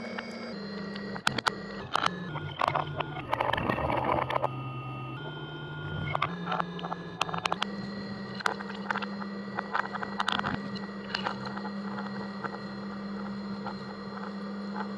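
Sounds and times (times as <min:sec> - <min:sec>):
motor humming: 0:00.0 - 0:14.9.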